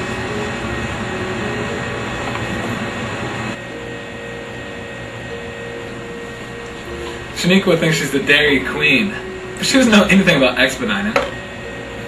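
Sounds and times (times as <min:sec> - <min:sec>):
kitchen equipment and ventilation hum: 0:00.0 - 0:12.0.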